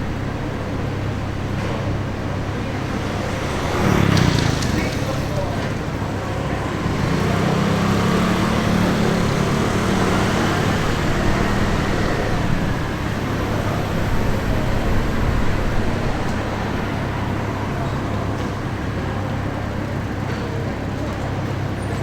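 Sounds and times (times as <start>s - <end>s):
vehicle engine and tyres: 0.0s - 22.0s.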